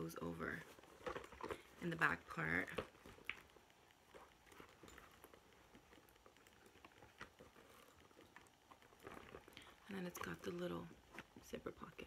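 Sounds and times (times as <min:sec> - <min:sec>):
handbag rustling: 0:00.0 - 0:12.0
light ticks of handbag compartments: 0:01.0 - 0:12.0.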